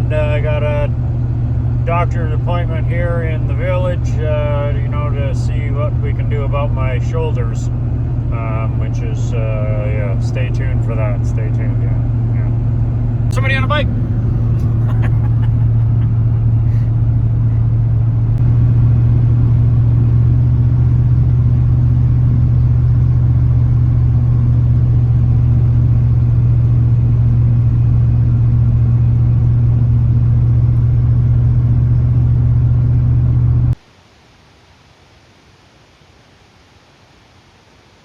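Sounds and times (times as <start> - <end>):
car engine and road noise: 0.0 - 33.8.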